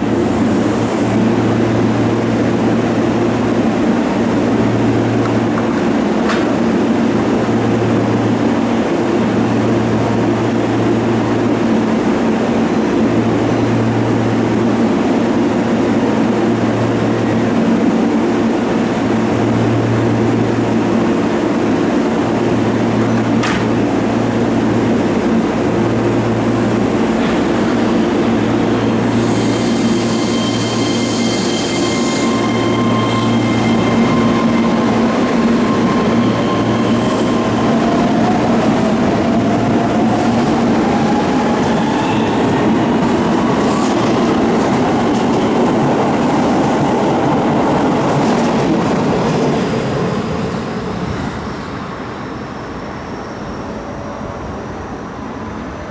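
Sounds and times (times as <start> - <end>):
electric train hum: 0.0 - 55.9.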